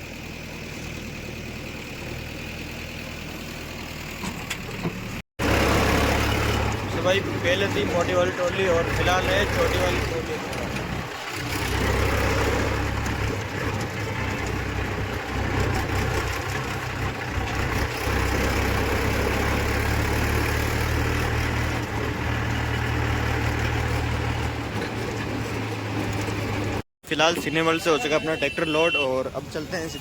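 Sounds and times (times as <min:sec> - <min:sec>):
tractor diesel engine humming: 0:00.0 - 0:30.0.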